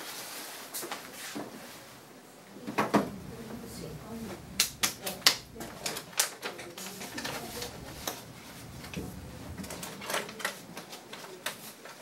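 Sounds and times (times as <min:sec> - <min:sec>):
low background hum: 0:01.6 - 0:11.7.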